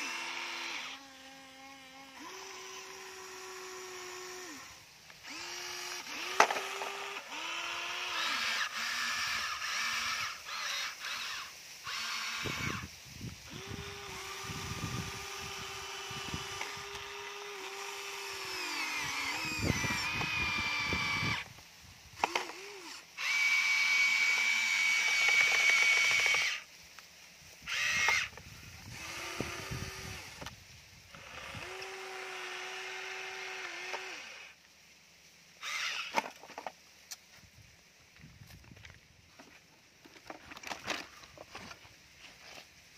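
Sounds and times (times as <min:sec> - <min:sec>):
toy excavator motors whining: 0:00.0 - 0:26.7, 0:27.5 - 0:34.6, 0:35.6 - 0:37.2, 0:39.4 - 0:42.7.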